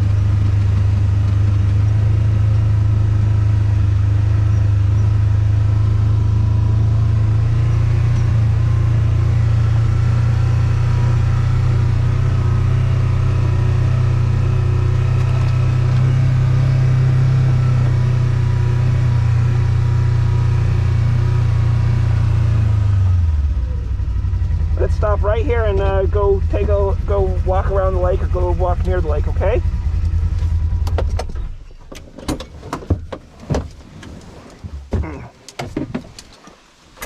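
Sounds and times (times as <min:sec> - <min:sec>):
small vehicle engine humming: 0:00.0 - 0:37.0.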